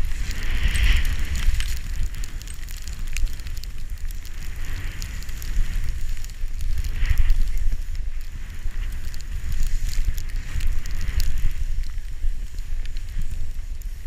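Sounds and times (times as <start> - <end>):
skis spraying snow: 0.0 - 14.0
small clicks and crackles: 0.0 - 14.0
wind buffeting microphone: 0.0 - 14.0.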